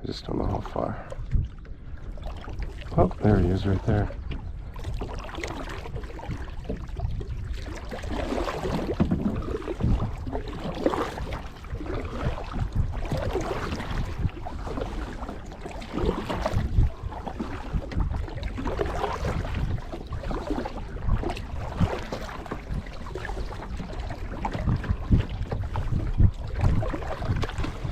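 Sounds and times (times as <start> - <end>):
paddle splashing in water: 1.1 - 27.9.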